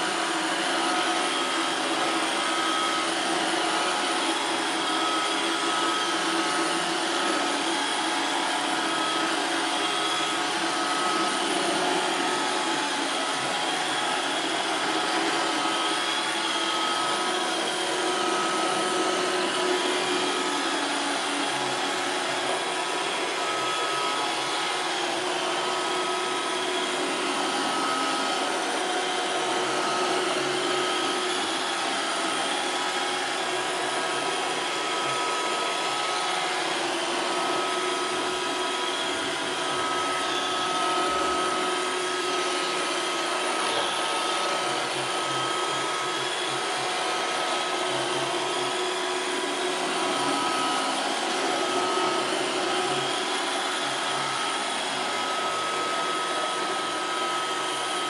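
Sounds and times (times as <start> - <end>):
robot vacuum whirring: 0.0 - 58.0.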